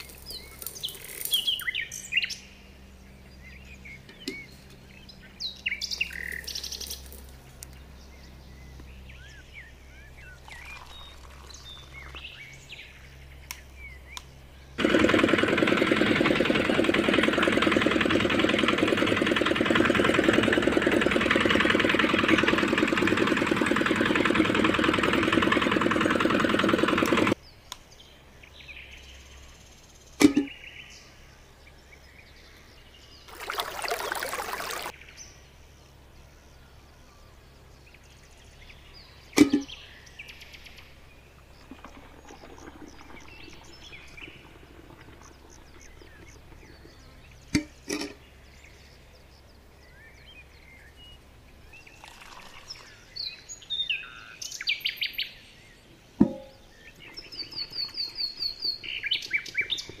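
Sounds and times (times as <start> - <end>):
small birds chirping: 0.0 - 15.0, 15.9 - 60.0.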